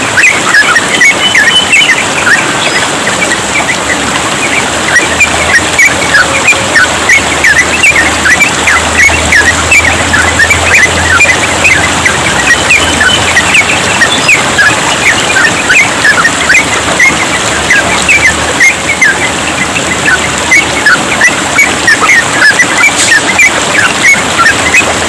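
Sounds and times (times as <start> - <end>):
birds chirping rapidly: 0.0 - 25.0
trickling water: 0.0 - 25.0.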